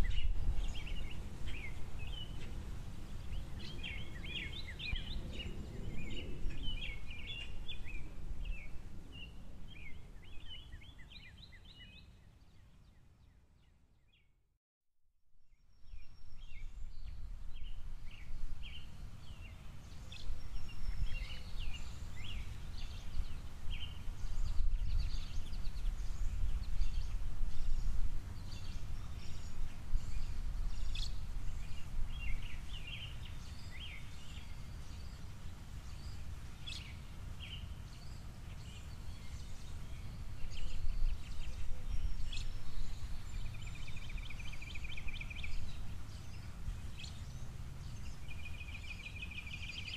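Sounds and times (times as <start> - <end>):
small songbirds chirping: 0.0 - 14.4, 15.5 - 49.9.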